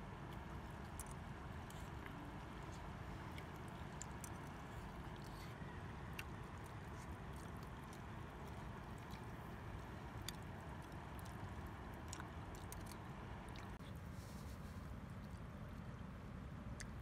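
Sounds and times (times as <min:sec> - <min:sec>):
low background rumble: 0:00.0 - 0:17.0
quiet chewing: 0:00.0 - 0:17.0.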